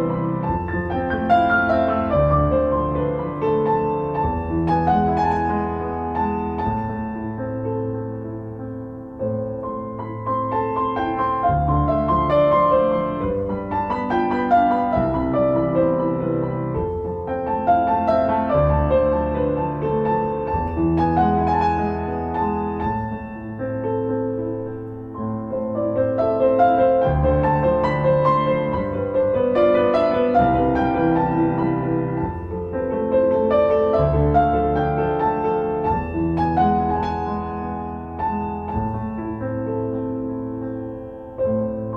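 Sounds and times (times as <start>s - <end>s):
piano playing: 0.0s - 41.9s.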